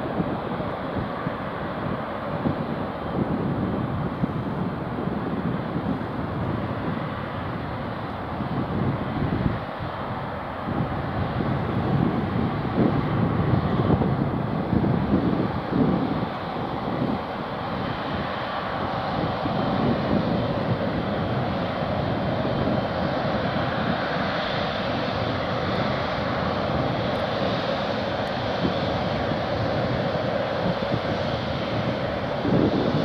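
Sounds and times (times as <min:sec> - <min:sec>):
jet engines whining and rumbling: 0:00.0 - 0:33.0.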